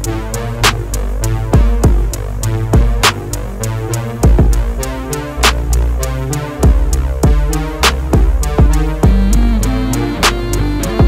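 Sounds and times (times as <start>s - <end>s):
deep kick drums: 0.0s - 3.6s, 4.2s - 5.7s, 6.6s - 11.0s
hi-hat ticks: 0.0s - 11.0s.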